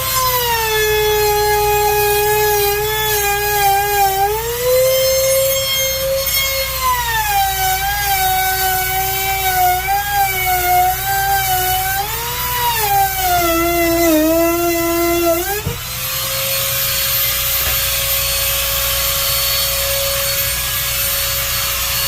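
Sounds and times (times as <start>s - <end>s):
router cutting wood: 0.0s - 22.0s.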